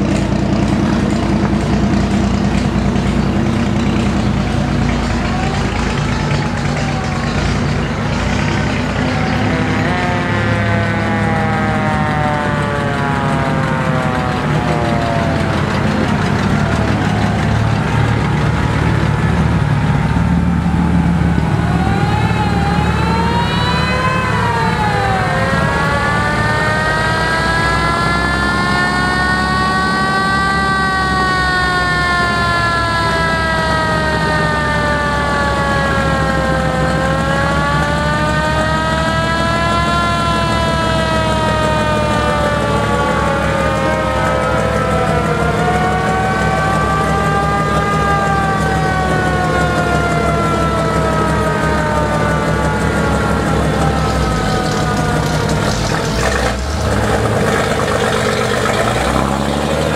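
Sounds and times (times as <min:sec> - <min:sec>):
fire truck sirens wailing: 0:00.0 - 0:59.9
truck engines running: 0:00.0 - 0:59.9.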